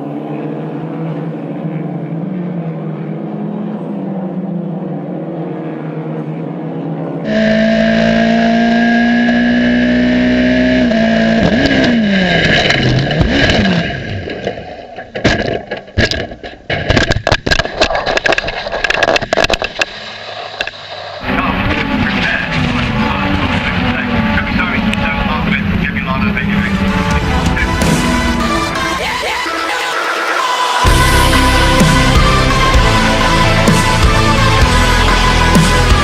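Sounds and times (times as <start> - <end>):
race car engines at high revs: 0.0 - 14.4, 20.1 - 36.0.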